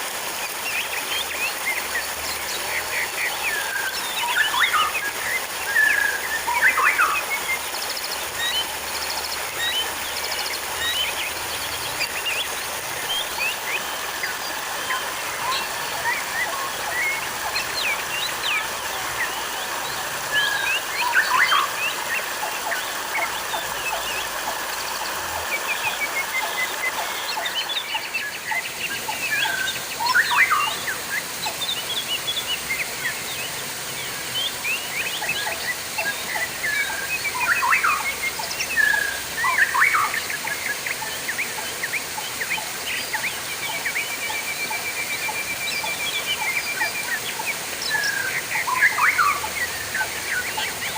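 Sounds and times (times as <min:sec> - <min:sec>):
small birds chirping: 0:00.0 - 0:50.9
trickling water: 0:00.0 - 0:50.9.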